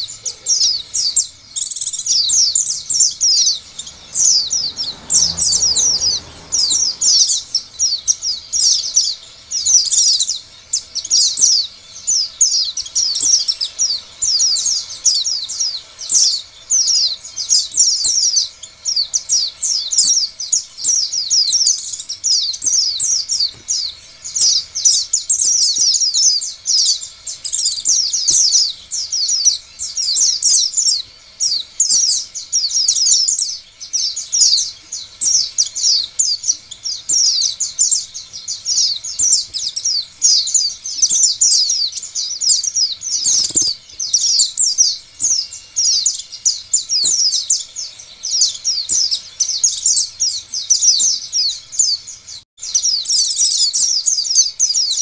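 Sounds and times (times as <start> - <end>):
bird twittering song: 0.0 - 55.0.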